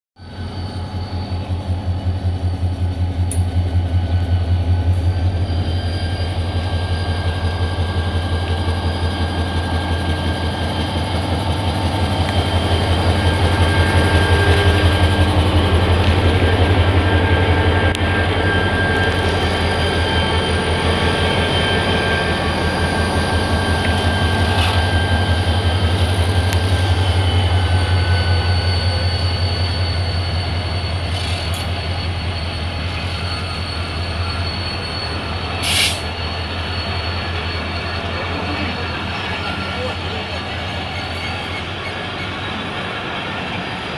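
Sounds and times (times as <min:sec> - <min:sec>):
train coaches rumbling on rails: 0:00.2 - 0:43.9.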